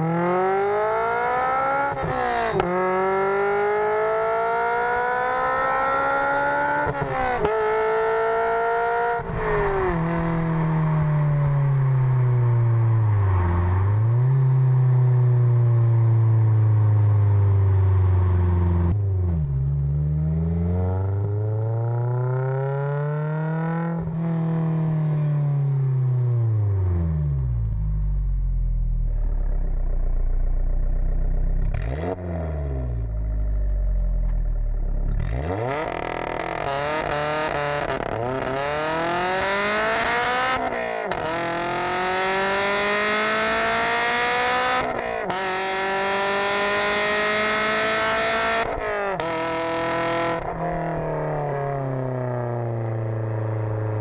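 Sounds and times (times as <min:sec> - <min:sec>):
car engine revving: 0:00.0 - 0:17.0, 0:17.8 - 0:54.0.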